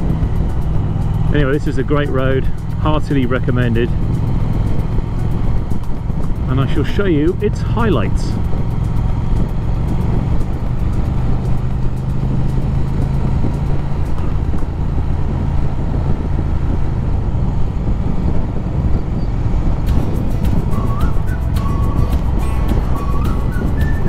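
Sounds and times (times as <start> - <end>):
motorcycle engine cruising: 0.0 - 24.0
wind rush: 0.0 - 24.0.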